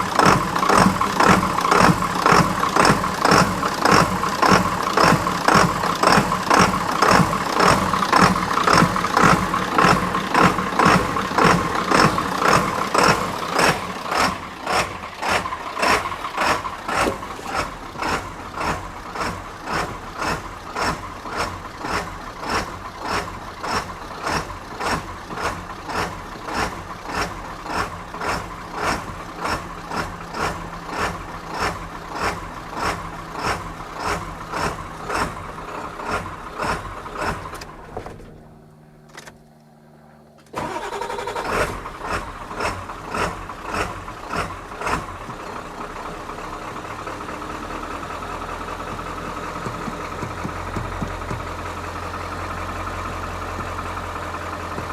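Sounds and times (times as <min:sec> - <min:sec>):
diesel engine idling: 0:00.0 - 0:39.1, 0:39.8 - 0:54.9
diesel engine cranking: 0:00.0 - 0:39.8, 0:40.4 - 0:54.9.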